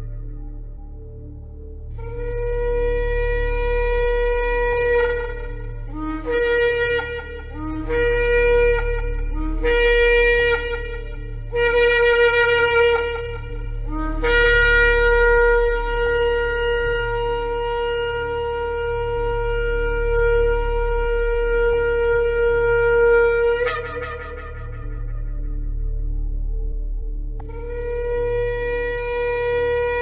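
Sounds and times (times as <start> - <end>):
steady low hum: 0.0 - 30.0
shofar blast: 1.9 - 26.4, 27.4 - 30.0.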